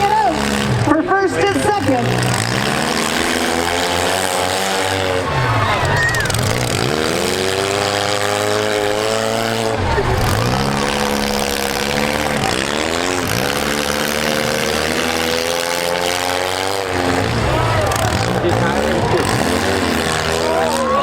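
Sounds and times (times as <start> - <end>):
car engine revving: 0.0 - 21.0
other engines running: 0.0 - 21.0.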